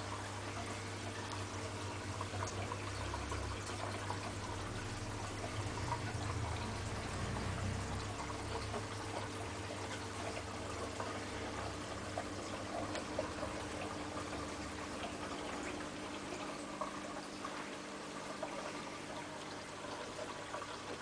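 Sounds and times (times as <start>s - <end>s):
filter pump hum: 0.0s - 21.0s
water trickling and splashing: 0.0s - 21.0s.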